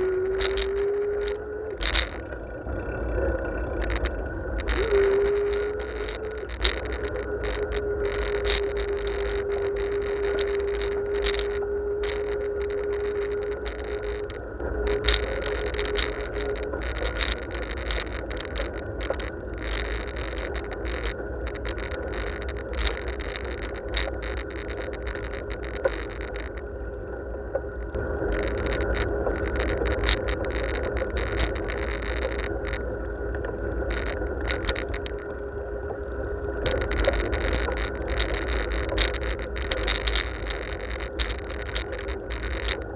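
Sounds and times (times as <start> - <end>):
bicycle rattling and clicking: 0.0 - 42.9
faint whine: 0.0 - 42.9
wind rumbling on microphone: 0.0 - 42.9.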